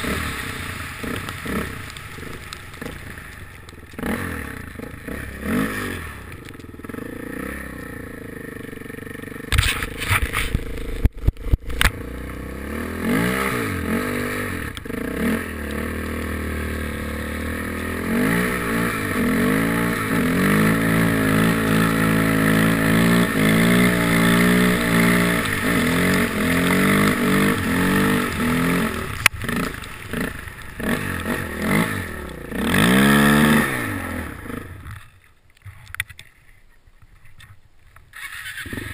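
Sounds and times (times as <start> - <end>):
quad engine revving: 0.0 - 3.1, 3.9 - 35.0, 38.2 - 38.9.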